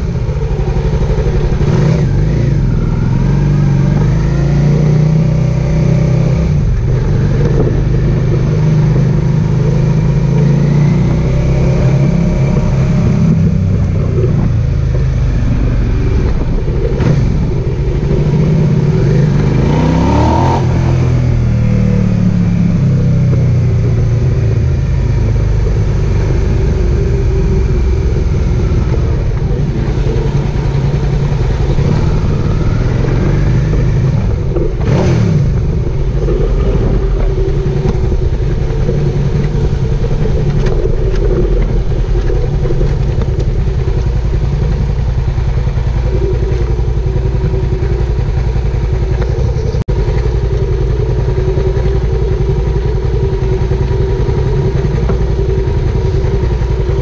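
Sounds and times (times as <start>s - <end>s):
motorcycle engine cruising: 0.0s - 57.0s
rush of noise: 0.0s - 57.0s
wind rumble: 0.0s - 57.0s.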